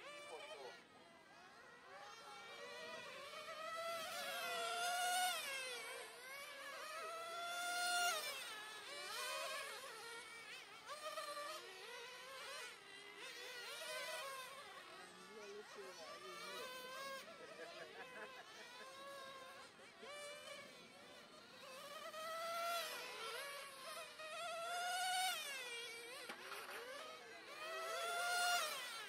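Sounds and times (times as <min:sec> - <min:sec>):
rc cars whining: 0:00.0 - 0:29.0.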